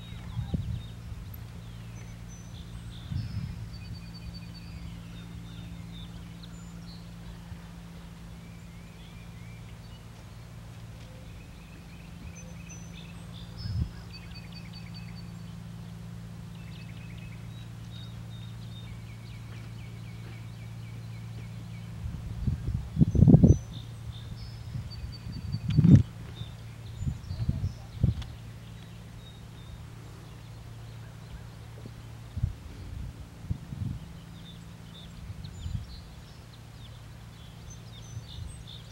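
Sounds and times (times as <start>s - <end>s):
birds calling and trilling: 0.0s - 38.9s
low hum: 0.0s - 38.9s.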